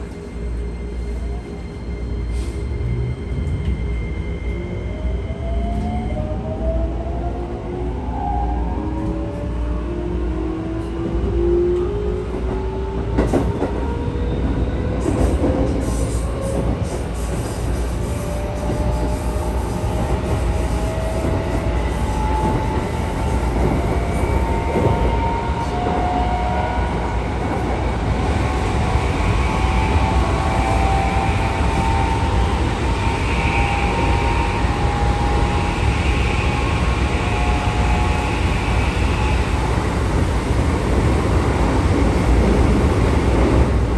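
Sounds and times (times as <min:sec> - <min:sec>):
train rumble: 0:00.0 - 0:43.9.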